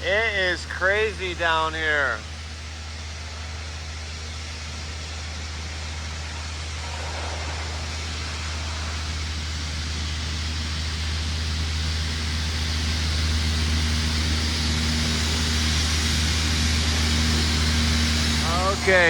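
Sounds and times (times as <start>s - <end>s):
city street noise: 0.0s - 19.0s
heavy vehicle engine idling: 0.0s - 19.0s.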